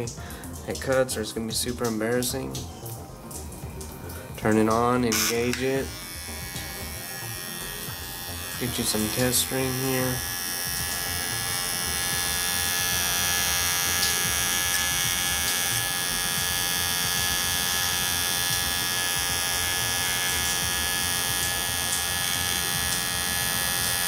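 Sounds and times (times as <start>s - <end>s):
hair clipper motor buzz: 3.4s - 24.0s.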